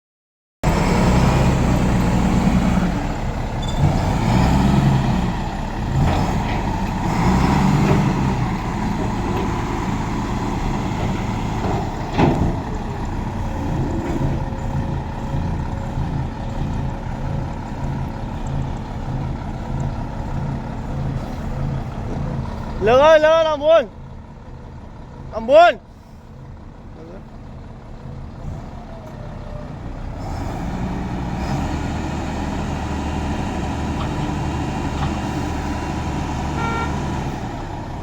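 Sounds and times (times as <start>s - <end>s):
truck engine rumbling: 0.6s - 38.0s.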